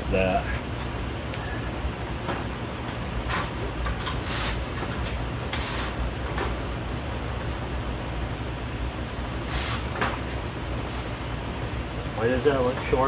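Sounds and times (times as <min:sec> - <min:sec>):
swamp cooler humming: 0:00.0 - 0:13.0.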